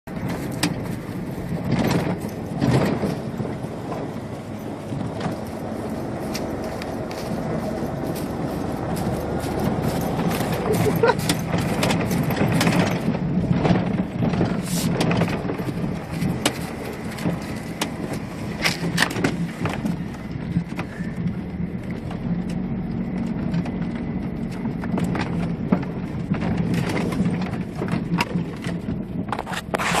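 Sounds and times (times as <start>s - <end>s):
engine and road hum: 0.0s - 30.0s
knocks and rattles: 0.1s - 30.0s.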